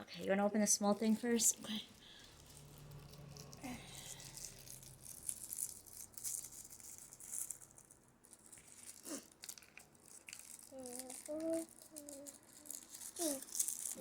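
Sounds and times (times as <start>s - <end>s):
plastic packaging rustling: 1.3s - 14.0s
small plastic pieces rattling: 2.3s - 14.0s.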